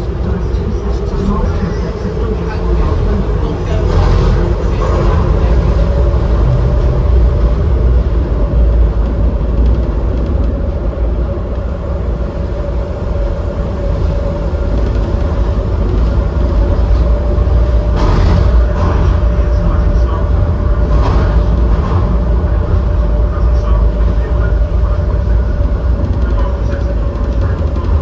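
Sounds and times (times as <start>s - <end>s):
steady hum: 0.0s - 28.0s
train interior rumble: 0.0s - 28.0s.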